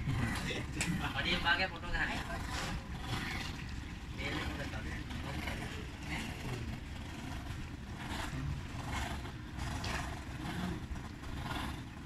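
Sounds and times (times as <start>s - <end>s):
motorboat engine rumbling: 0.0s - 12.0s.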